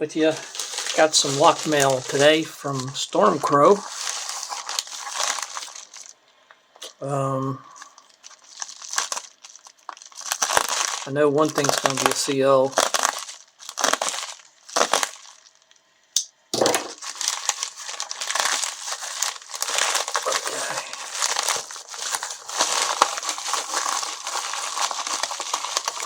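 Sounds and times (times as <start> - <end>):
wrapping crinkling and rustling: 0.1 - 15.9, 16.7 - 26.0.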